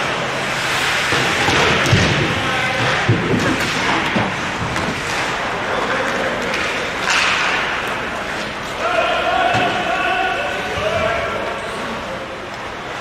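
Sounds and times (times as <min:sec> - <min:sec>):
skates scraping ice: 0:00.0 - 0:12.0
sticks and puck clattering: 0:00.5 - 0:13.0.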